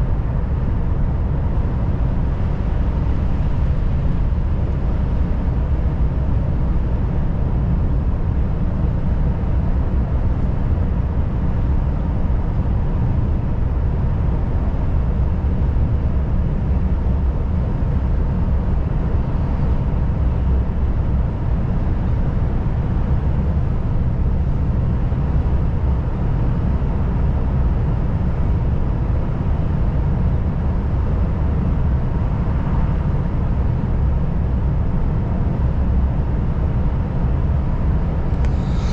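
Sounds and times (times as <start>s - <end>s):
truck engine and road noise rumble: 0.0s - 38.9s.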